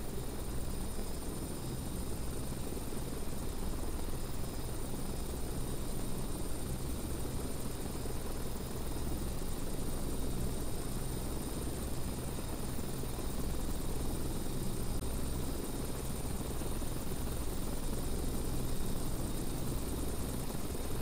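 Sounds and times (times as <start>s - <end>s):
jet engines low rumble: 0.0s - 21.0s.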